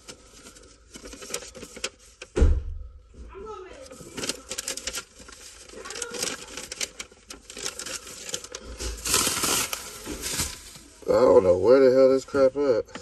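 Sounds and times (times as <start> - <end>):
plastic bag crinkling: 0.0 - 2.2, 3.8 - 12.2.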